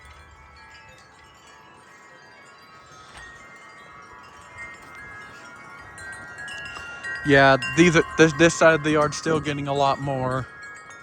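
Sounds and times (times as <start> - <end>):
wind chimes ringing: 0.0 - 11.0.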